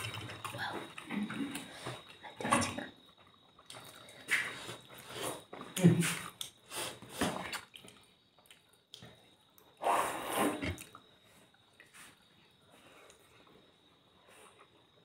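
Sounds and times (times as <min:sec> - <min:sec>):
biting and wet chewing: 0:00.0 - 0:09.8, 0:10.4 - 0:15.0.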